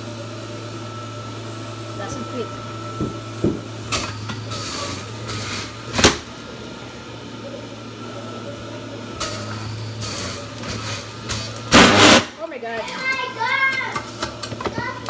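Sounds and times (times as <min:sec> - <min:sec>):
juicer grinding fruit: 0:00.0 - 0:15.0
juicer motor hum: 0:00.0 - 0:15.0.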